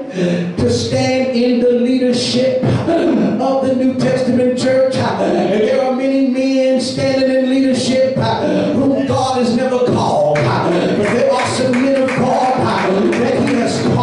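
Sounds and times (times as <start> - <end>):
man singing through microphone: 0.0 - 14.0.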